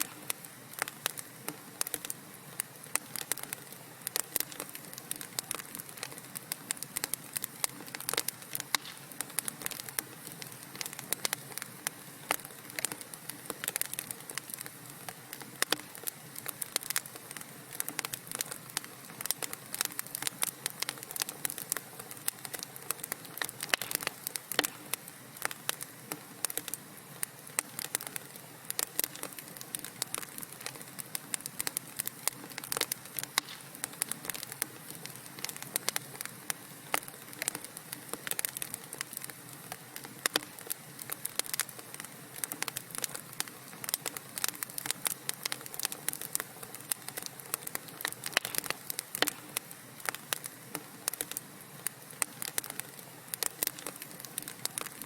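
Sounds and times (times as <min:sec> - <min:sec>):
soft fire hiss: 0:00.0 - 0:55.0
wood fire crackling and popping: 0:00.0 - 0:55.0.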